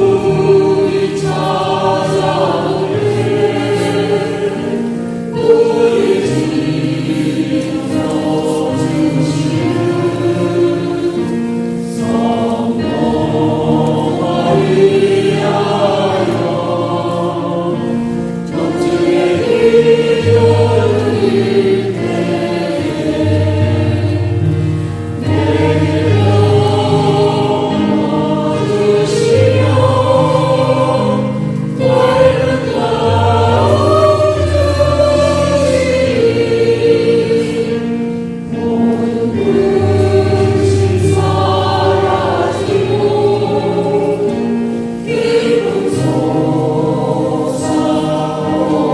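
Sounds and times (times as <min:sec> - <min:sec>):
choir singing a hymn: 0:00.0 - 0:48.9.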